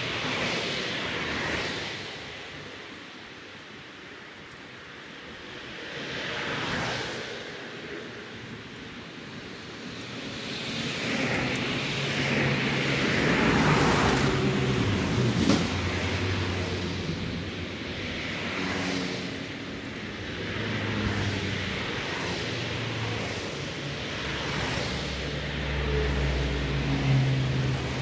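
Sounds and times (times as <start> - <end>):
vehicles passing: 0.0 - 28.0.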